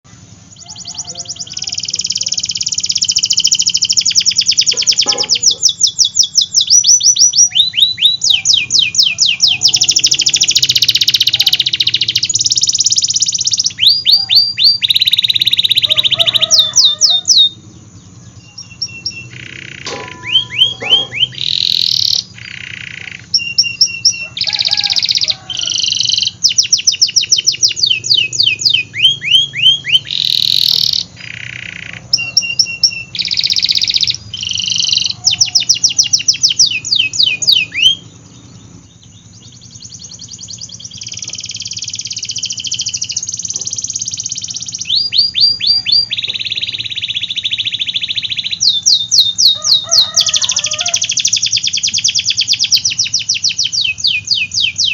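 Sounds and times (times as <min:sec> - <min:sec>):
canary singing in trills: 0:00.1 - 0:54.9.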